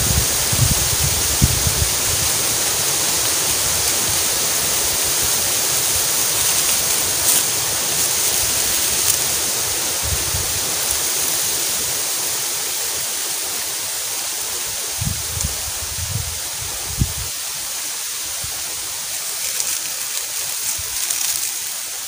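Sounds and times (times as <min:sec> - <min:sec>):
dry bamboo leaves crackling: 0:00.0 - 0:22.0
steady hiss: 0:00.0 - 0:22.0.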